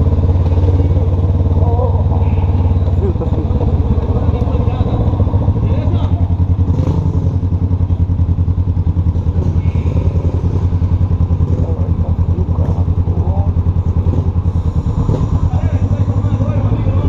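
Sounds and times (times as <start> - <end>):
motorcycle engine at low revs: 0.0 - 17.0
motorcycle rolling over cobblestones: 0.0 - 17.0.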